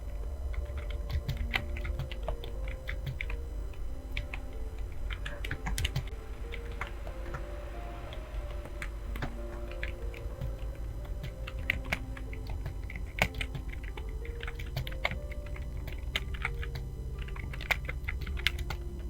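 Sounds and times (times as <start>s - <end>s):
keyboard typing: 0.0s - 19.0s.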